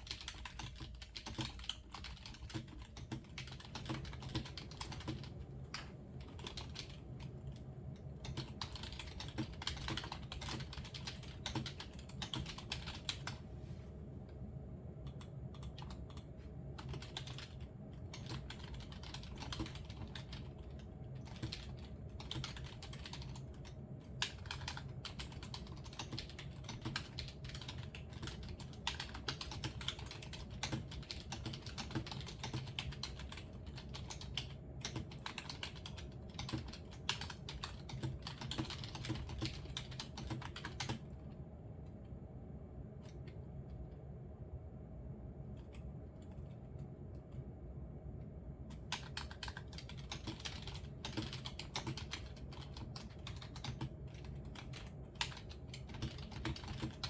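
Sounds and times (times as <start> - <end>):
typing on computer keyboard: 0.0 - 13.4, 15.0 - 41.3, 48.7 - 57.0
steady low hum: 0.0 - 57.0.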